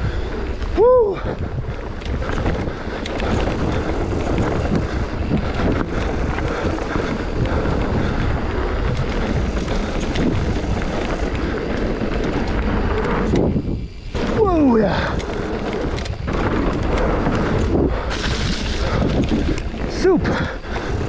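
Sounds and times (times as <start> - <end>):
bike knocks and rattles: 0.0 - 21.0
tyres rumbling on rough trail: 0.0 - 21.0
wind buffeting microphone: 0.0 - 21.0.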